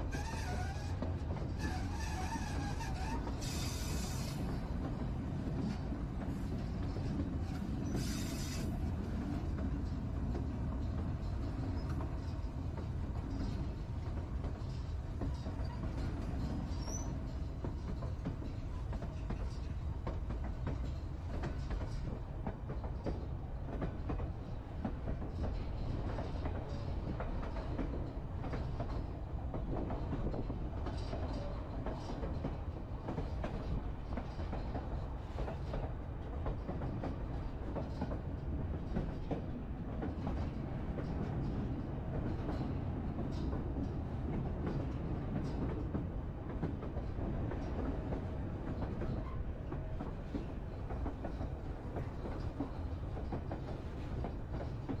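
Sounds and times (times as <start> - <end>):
train clicking and clatter: 0.0 - 55.0
train wheels rumbling on rail: 0.0 - 55.0.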